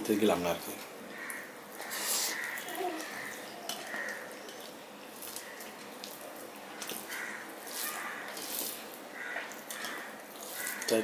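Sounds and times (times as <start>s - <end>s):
rice squishing by hand: 1.2s - 11.0s.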